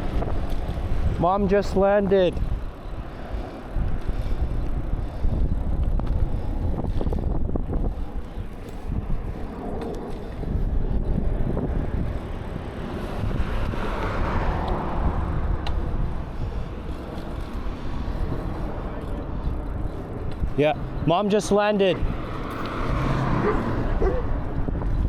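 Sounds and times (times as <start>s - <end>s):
road noise: 0.0s - 25.0s
wind rumbling on microphone: 0.0s - 25.0s.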